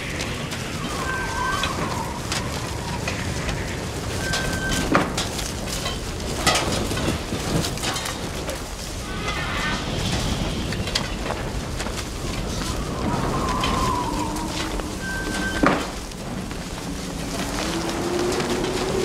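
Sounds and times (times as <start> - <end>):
strong storm wind rushing: 0.0 - 19.0
sharp knocks and rattles: 3.1 - 19.0.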